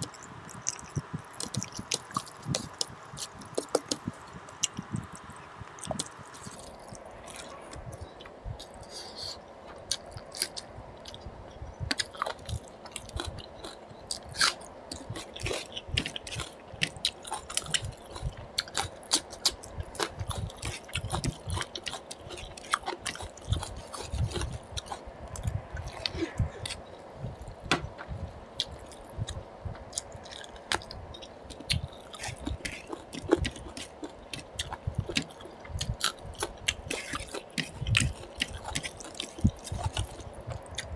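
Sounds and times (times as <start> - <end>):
chewing and lip smacking: 0.0 - 9.0, 9.7 - 40.9.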